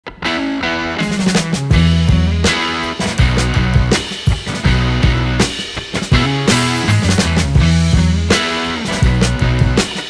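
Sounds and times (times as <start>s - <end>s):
band music with drums: 0.2s - 10.0s.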